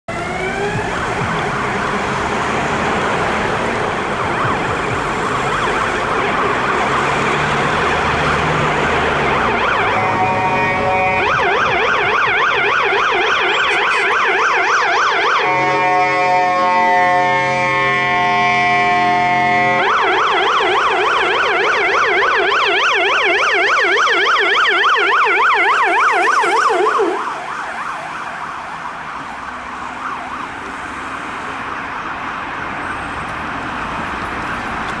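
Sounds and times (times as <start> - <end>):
ambulance siren: 0.1 - 35.0.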